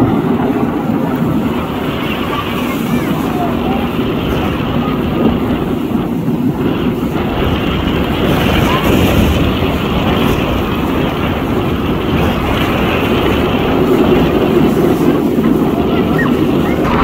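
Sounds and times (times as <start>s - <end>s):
distant jet aircraft roar: 0.0s - 17.0s
wind rumble on microphone: 0.0s - 17.0s.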